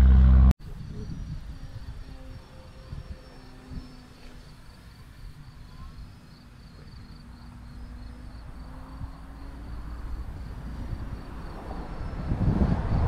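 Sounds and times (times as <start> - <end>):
model airplane engine drone: 0.0 - 13.0
wind rumble on microphone: 0.0 - 13.0
insects trilling: 0.6 - 13.0.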